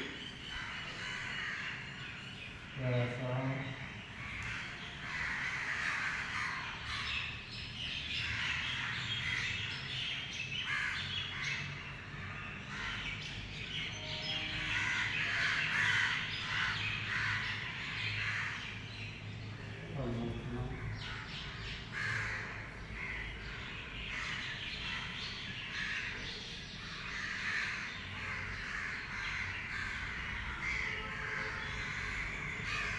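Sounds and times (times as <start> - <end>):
birds chirping and calling: 0.0 - 32.9.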